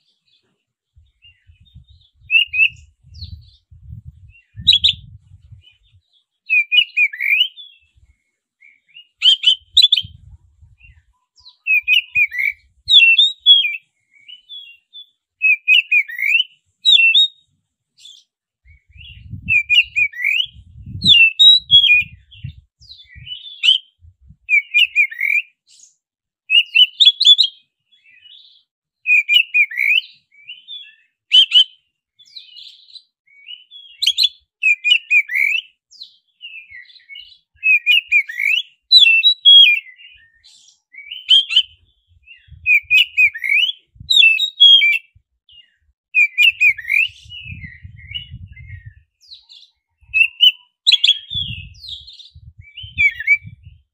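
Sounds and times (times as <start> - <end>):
bird singing chirps and whistles: 1.0 - 53.9.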